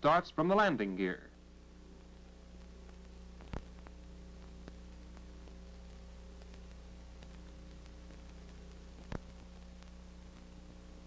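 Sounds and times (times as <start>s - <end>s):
film soundtrack hum and hiss: 0.0s - 11.0s
faint ticks: 2.0s - 11.0s.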